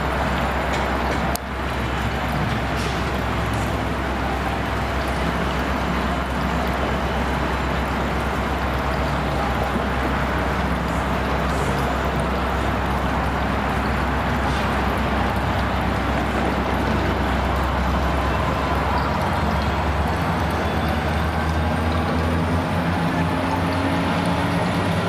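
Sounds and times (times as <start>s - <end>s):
train engine rumble: 0.0s - 25.0s
train wheels on rails: 0.0s - 25.0s.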